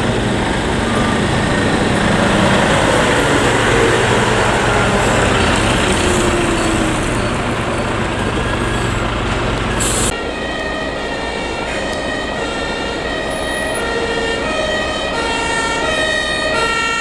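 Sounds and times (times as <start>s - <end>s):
fire engine driving past: 0.0s - 17.0s.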